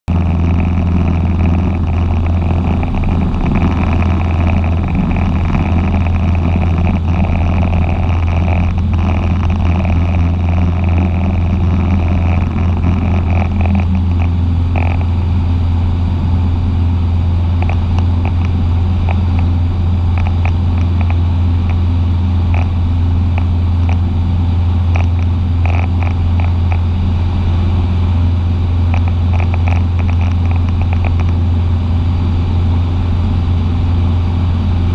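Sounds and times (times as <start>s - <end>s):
light aircraft engine and propeller drone: 0.1s - 34.9s.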